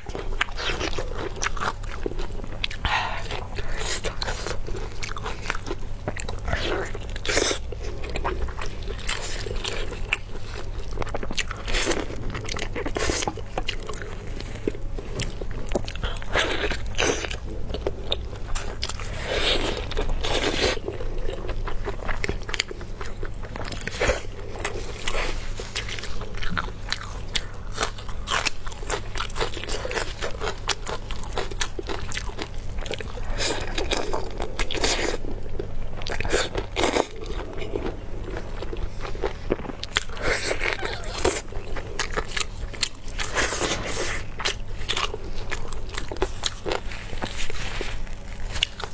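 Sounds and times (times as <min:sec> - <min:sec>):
crunching food: 0:00.0 - 0:48.9
steady low hum: 0:00.0 - 0:48.9
wet chewing: 0:00.0 - 0:48.9.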